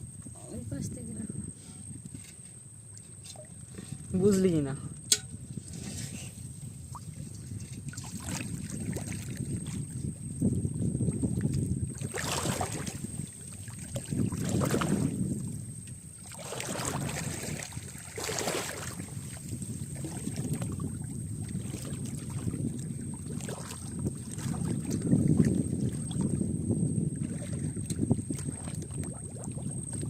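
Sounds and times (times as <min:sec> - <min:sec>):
water lapping around boat: 0:00.0 - 0:30.0
wind rumbling on microphone: 0:00.0 - 0:30.0.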